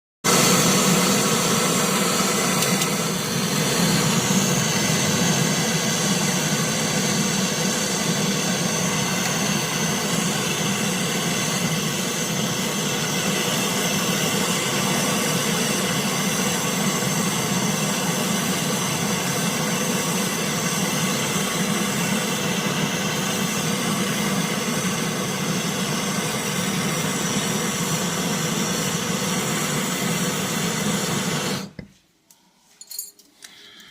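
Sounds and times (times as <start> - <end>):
machine hum with hiss: 0.3 - 31.9.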